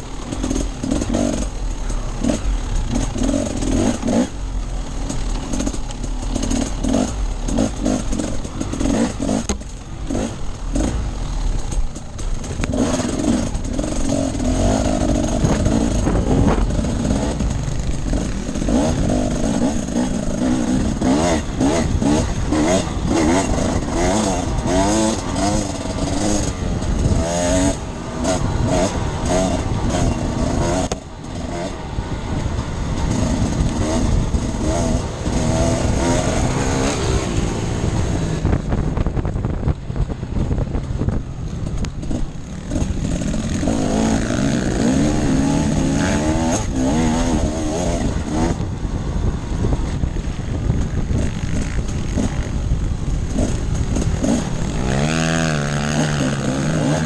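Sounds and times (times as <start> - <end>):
dirt bike engine revving: 0.0 - 39.8, 41.1 - 57.0.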